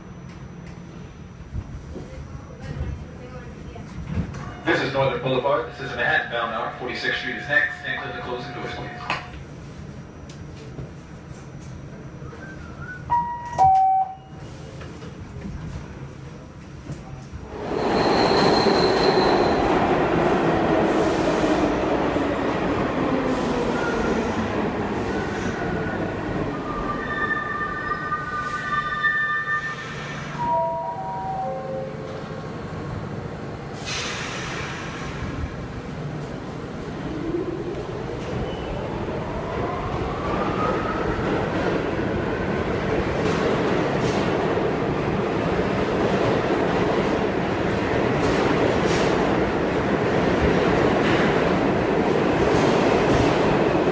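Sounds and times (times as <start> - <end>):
subway car rumble: 0.0 - 53.9.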